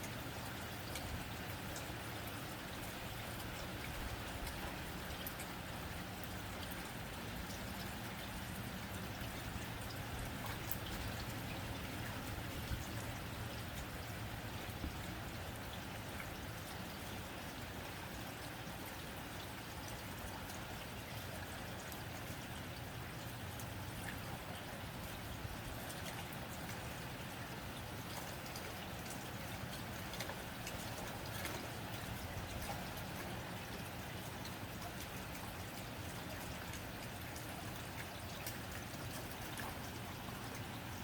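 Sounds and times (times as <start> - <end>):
rain on a tin roof: 0.0 - 41.0.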